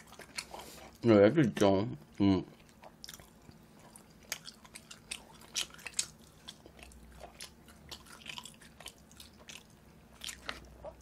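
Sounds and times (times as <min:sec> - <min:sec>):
person chewing with mouth smacks: 0:00.0 - 0:01.0, 0:02.1 - 0:11.0.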